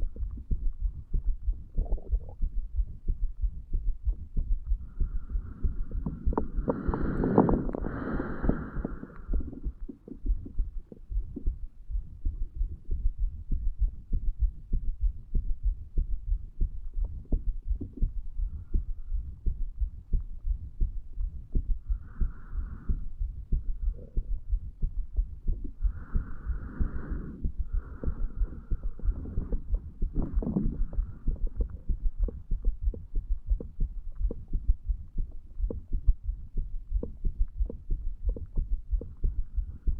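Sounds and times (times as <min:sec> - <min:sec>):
heartbeat thuds: 0:00.0 - 0:39.9
low hum: 0:00.0 - 0:39.9.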